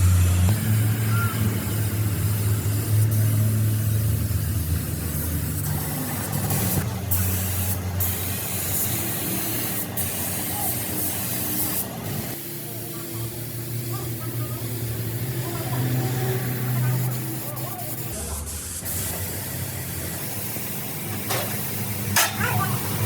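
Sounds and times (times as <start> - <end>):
spray-like hiss: 0.0 - 23.0.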